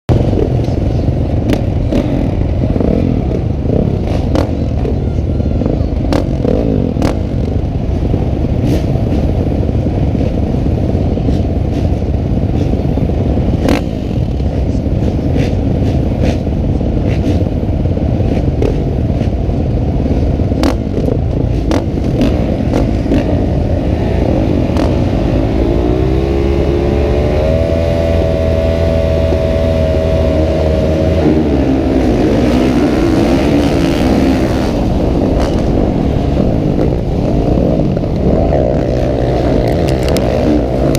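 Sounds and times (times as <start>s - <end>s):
motorcycle engines running: 0.1s - 40.9s.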